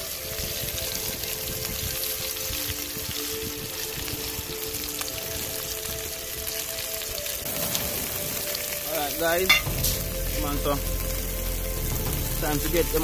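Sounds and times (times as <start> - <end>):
background music: 0.0 - 13.0
fish sizzling in hot oil: 0.0 - 13.0.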